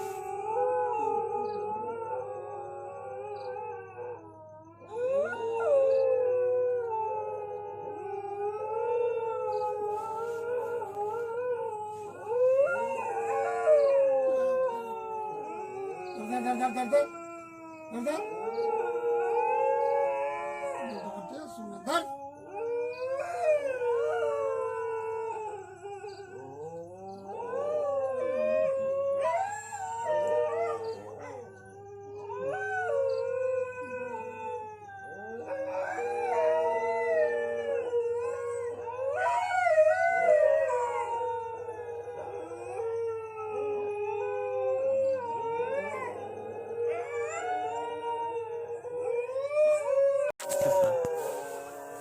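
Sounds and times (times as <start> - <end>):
dogs howling: 0.0 - 52.0.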